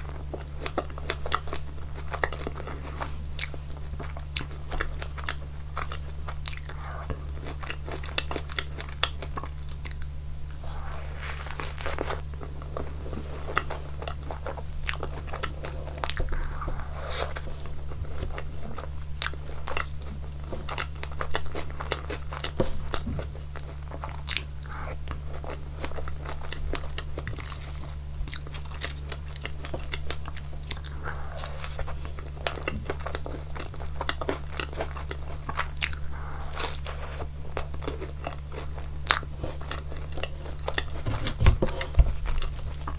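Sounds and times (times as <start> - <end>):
biting and chewing crunches: 0.0 - 42.9
steady low hum: 0.0 - 42.9.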